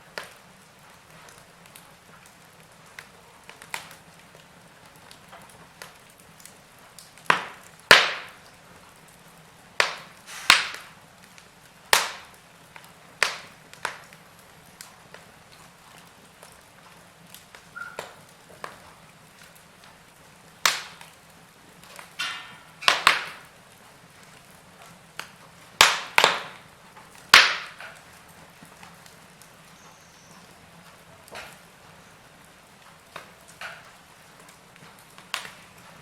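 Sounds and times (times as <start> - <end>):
logs crackling in a fireplace: 0.0 - 36.0.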